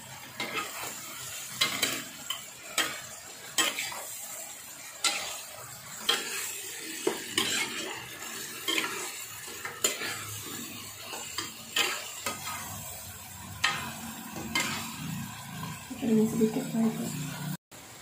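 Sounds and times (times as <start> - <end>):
spatula scraping a wok: 0.0 - 17.6
sauce sizzling: 0.0 - 18.0.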